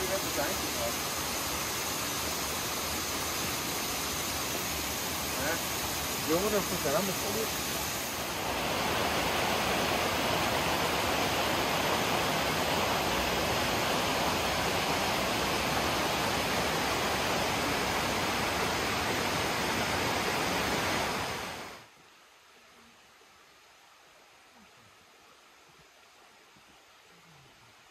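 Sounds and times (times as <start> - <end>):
rushing water roar: 0.0 - 27.9.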